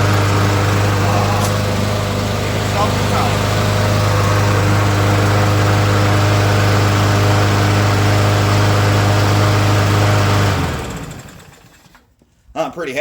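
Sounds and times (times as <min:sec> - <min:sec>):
lawn mower engine running: 0:00.0 - 0:12.1.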